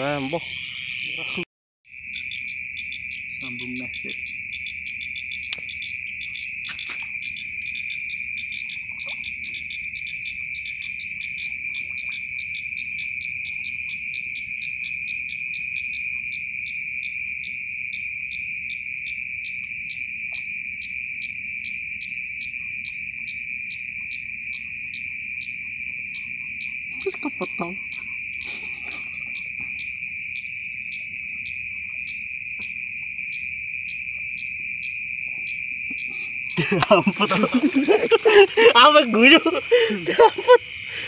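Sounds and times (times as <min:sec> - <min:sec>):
crickets and night insects chorus: 0:00.0 - 0:41.0
pulsing insect chirps: 0:00.0 - 0:41.0.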